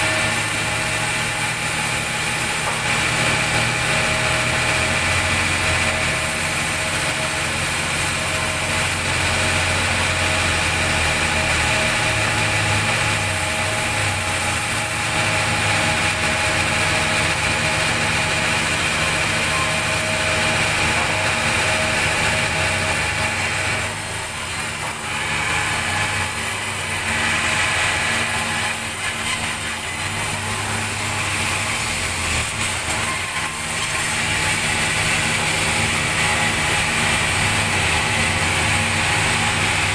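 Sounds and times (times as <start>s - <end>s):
band sawmill humming: 0.0s - 39.9s.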